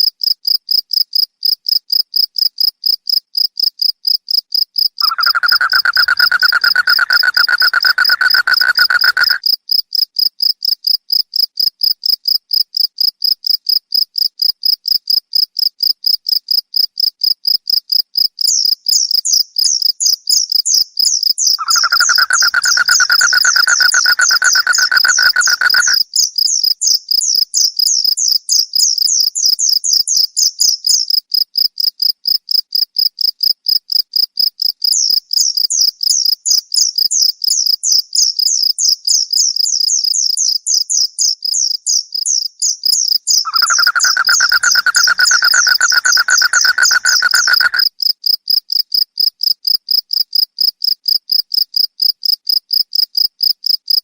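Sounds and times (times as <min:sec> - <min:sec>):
lower insect call: 0:00.2 - 0:53.8
crickets chirping: 0:00.5 - 0:09.6, 0:16.4 - 0:30.8, 0:33.7 - 0:53.6.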